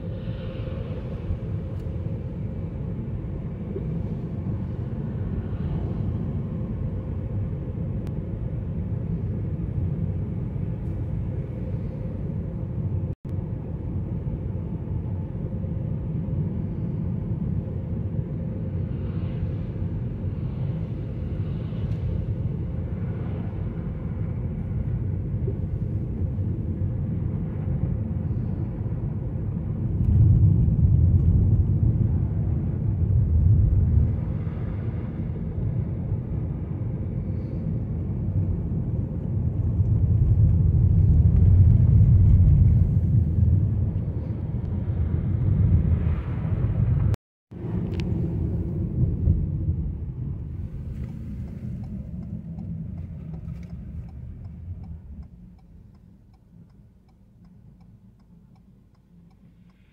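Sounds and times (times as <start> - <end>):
car tyres and engine rumble: 0.0 - 59.9.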